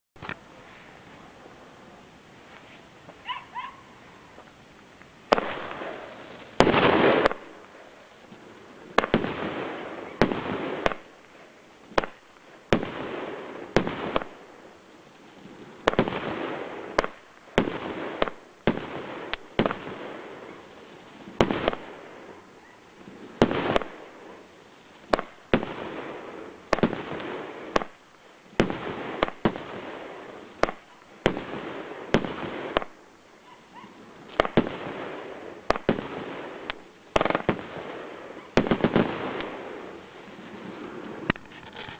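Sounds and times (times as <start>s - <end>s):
firework shots with hiss: 0.2s - 41.9s.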